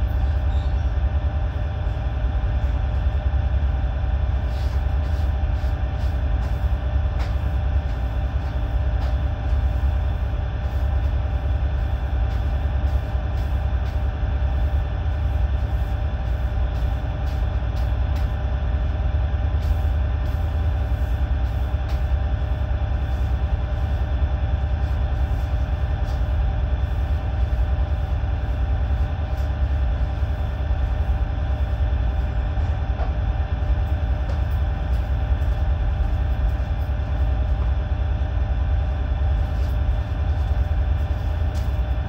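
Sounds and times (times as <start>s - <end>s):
ship machinery rumble and hum: 0.0s - 42.0s.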